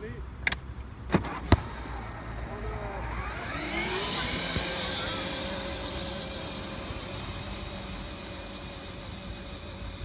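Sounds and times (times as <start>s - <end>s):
distant engine droning: 1.2s - 10.0s.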